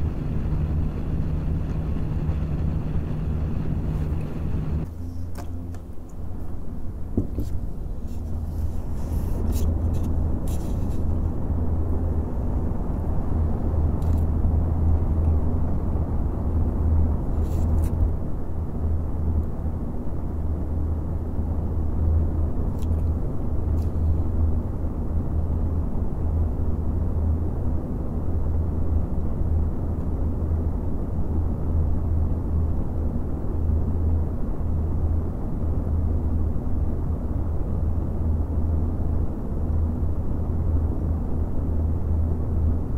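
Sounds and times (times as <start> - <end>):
computer fans rushing air: 0.0 - 42.9
low fan hum: 0.0 - 42.9.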